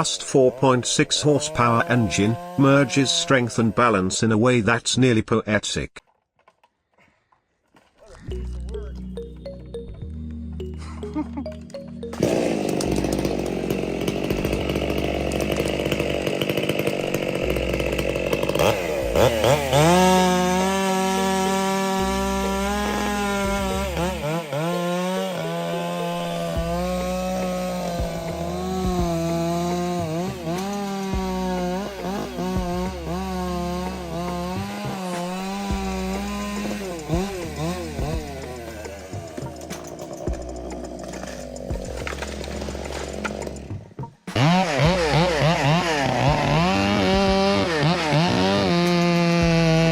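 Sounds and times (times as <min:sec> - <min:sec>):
chainsaw cutting wood: 0:00.0 - 0:04.1, 0:11.4 - 0:49.9.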